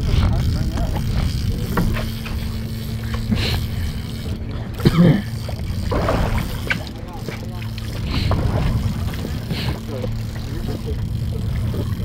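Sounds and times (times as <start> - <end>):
boat engine idling: 0.0 - 12.0
water noise: 0.0 - 12.0
wind: 0.0 - 12.0.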